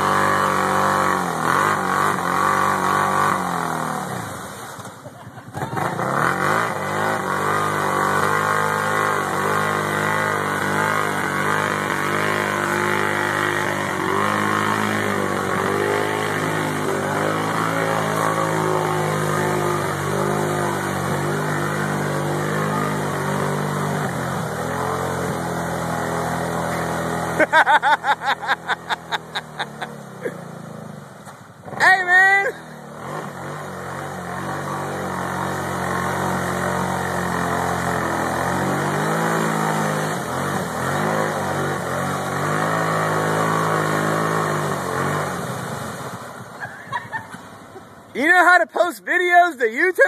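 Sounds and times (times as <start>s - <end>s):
atv engine revving: 0.0s - 50.0s.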